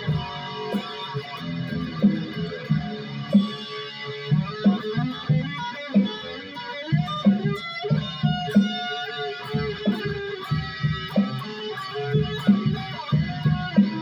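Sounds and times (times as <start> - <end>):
electric guitar noodling: 0.0 - 14.0.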